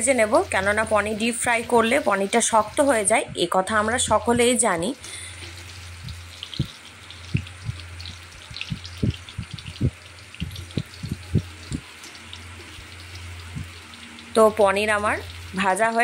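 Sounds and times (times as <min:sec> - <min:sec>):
cheese sizzling in oil: 0:00.0 - 0:03.2, 0:04.0 - 0:16.0.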